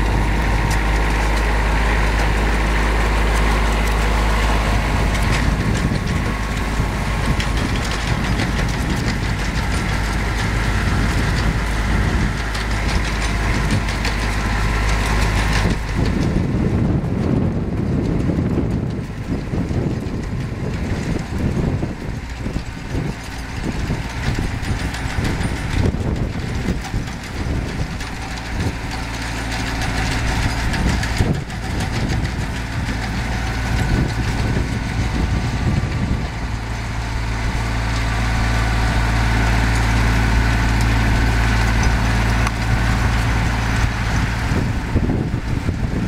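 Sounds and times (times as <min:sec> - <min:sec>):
rotary tiller churning soil: 0:00.0 - 0:46.0
tractor engine running: 0:00.0 - 0:46.0.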